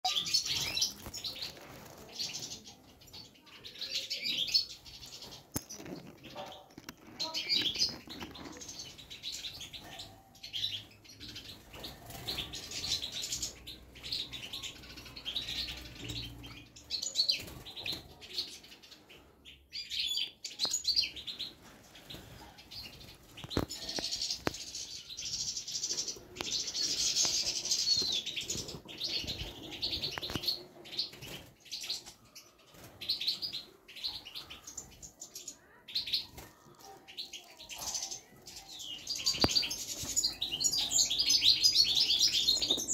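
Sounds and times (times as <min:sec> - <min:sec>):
birds twittering: 0:00.0 - 0:42.9.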